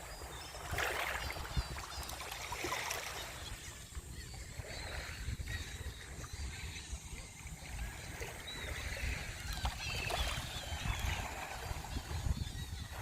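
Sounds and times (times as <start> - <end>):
water lapping on shore: 0.0 - 13.0.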